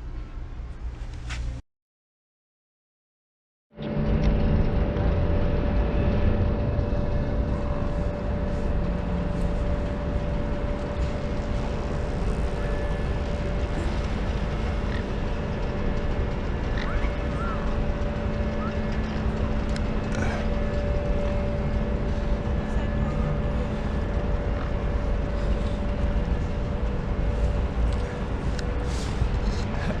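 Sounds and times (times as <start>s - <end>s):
steady mechanical drone: 0.0s - 1.6s, 3.8s - 30.0s.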